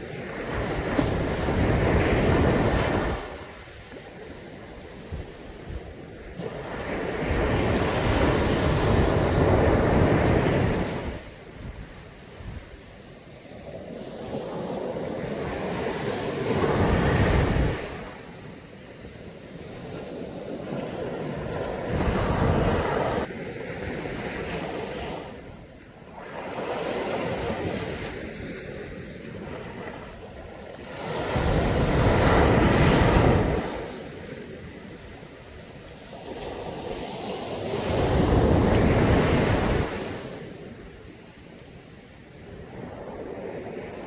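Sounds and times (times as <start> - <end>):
sea waves breaking on beach: 0.0 - 44.0.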